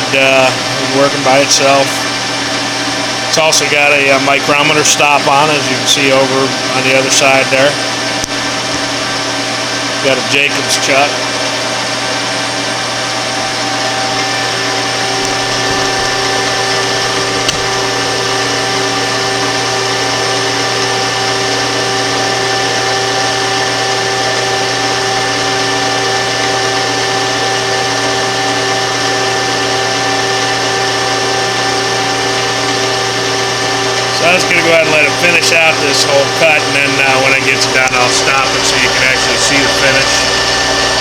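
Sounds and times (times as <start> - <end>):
lathe whining: 0.0 - 41.0.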